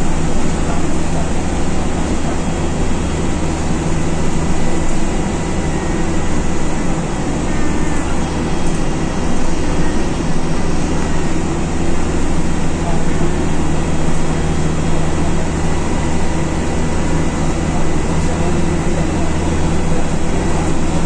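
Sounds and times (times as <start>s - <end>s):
bus engine drone: 0.0s - 21.0s
road noise: 0.0s - 21.0s.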